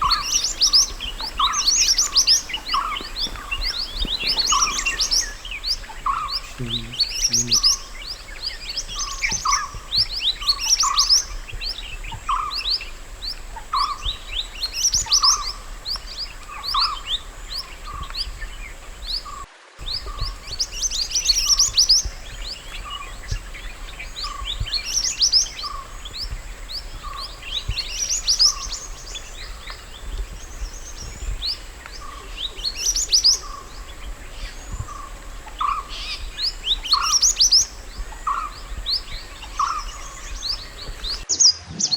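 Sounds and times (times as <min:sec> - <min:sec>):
songbird chirping: 0:00.0 - 0:41.3.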